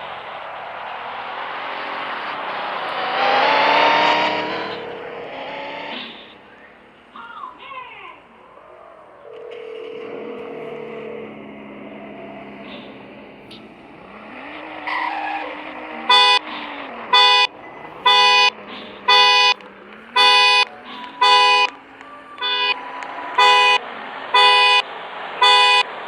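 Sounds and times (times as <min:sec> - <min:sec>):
car horn honking: 0:00.0 - 0:08.6, 0:09.2 - 0:26.0.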